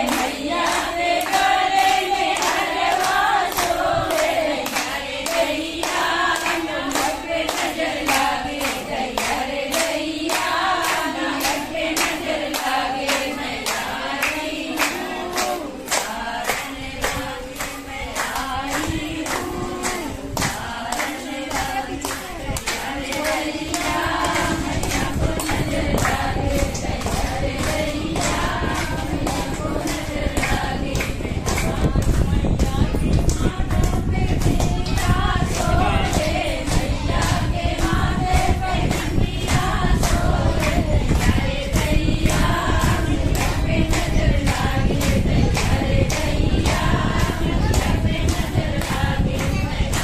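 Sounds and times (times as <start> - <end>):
rhythmic hand clapping: 0.0 - 50.0
women singing in chorus: 0.0 - 50.0.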